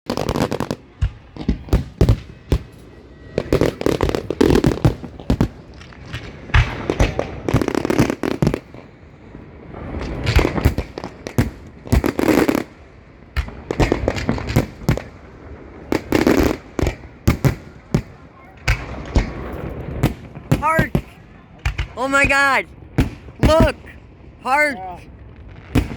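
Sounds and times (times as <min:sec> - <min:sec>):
fireworks bangs: 0:00.1 - 0:25.9
fireworks crackling: 0:00.1 - 0:25.9.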